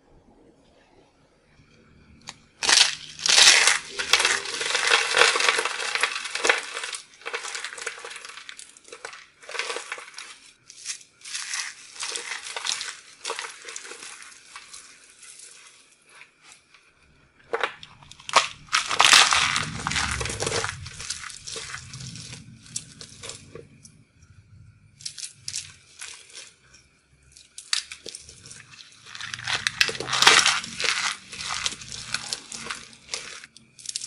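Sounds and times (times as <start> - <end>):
hands crunching dried soap flowers: 2.2 - 34.0.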